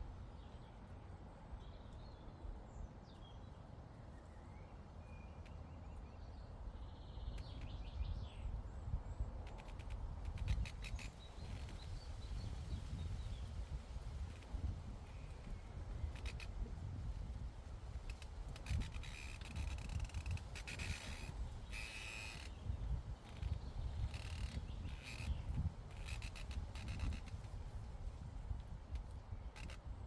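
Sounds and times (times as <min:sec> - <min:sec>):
low rumble of wind: 0:00.0 - 0:30.0.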